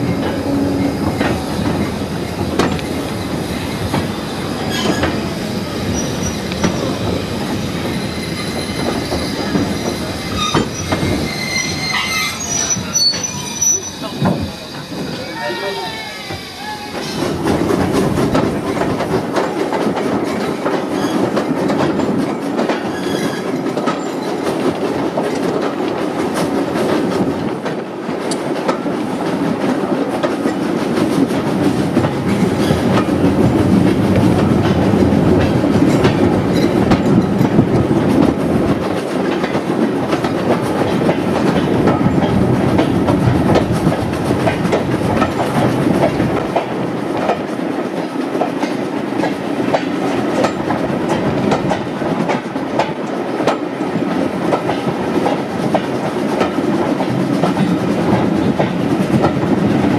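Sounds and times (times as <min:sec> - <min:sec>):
train wheels clattering on rails: 0:00.0 - 0:15.7, 0:16.3 - 0:59.9.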